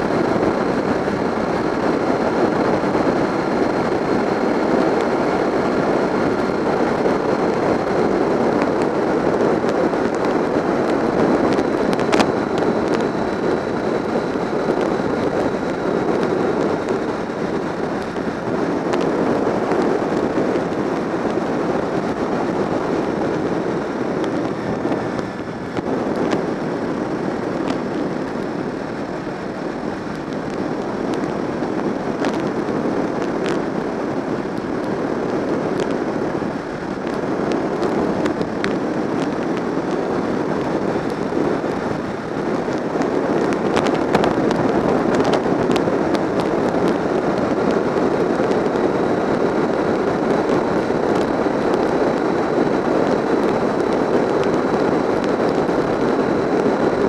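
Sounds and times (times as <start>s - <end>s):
wind buffeting microphone: 0.0s - 57.0s
crackles: 0.1s - 57.0s.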